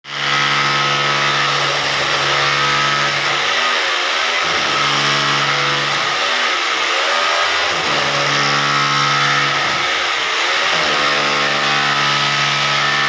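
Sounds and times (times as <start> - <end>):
hammer drill motor cutting: 0.1 - 13.0.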